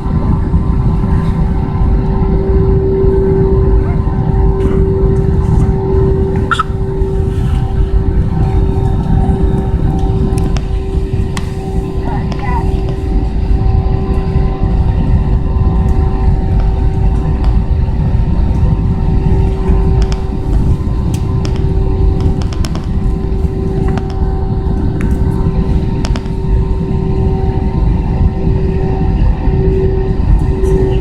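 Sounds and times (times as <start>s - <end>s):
airliner cabin rumble: 0.0s - 31.0s
steady humming tone: 0.0s - 31.0s.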